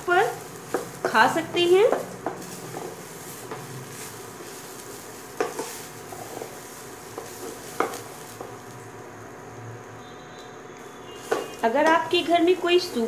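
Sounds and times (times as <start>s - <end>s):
soft sizzling: 0.0s - 13.0s.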